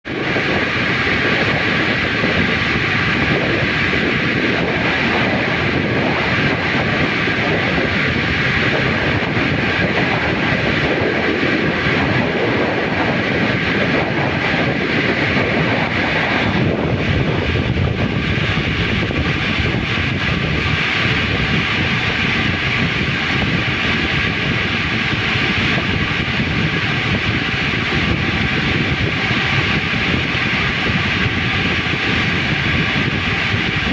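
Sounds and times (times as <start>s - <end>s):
machinery drone: 0.1s - 33.9s.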